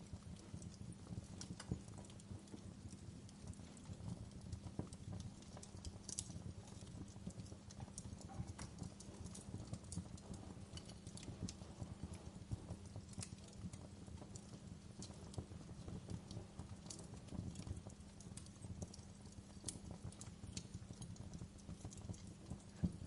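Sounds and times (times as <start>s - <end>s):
soft hiss of rain: 0.0s - 23.0s
wood fire crackling and popping: 0.0s - 23.0s.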